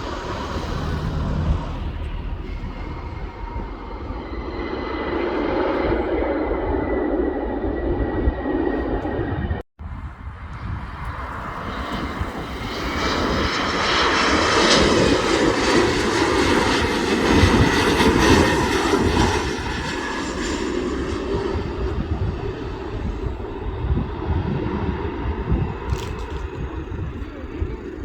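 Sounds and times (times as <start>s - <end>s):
aircraft engines passing by: 0.0s - 28.0s.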